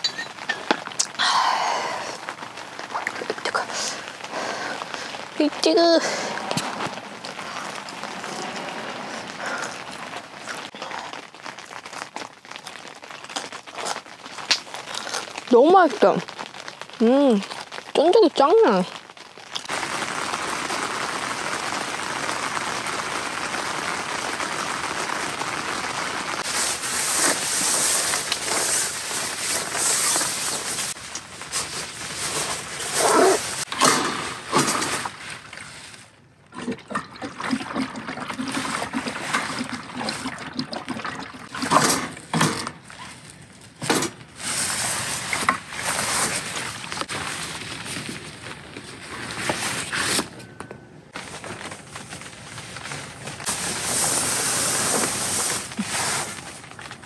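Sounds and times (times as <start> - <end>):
rain on a tent: 0.0 - 50.4, 51.1 - 57.0
plastic poncho rustling: 0.0 - 50.5, 51.1 - 57.0.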